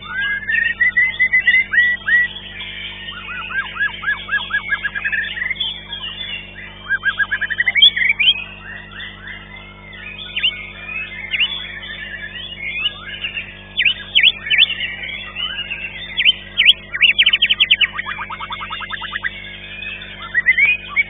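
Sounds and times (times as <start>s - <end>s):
songbird singing fast chirps: 0.0s - 9.4s, 10.0s - 21.0s
other birds singing: 0.0s - 21.0s.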